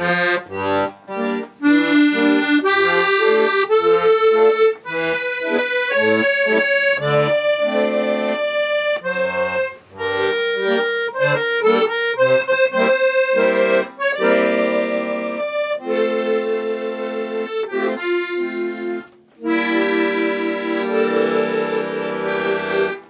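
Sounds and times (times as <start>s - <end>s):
accordion playing folk tune: 0.0s - 23.0s.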